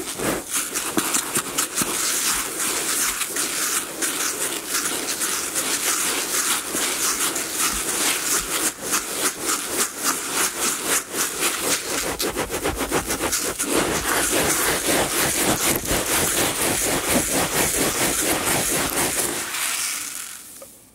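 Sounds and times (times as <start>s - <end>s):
hands rustling dry rice: 0.0s - 20.6s.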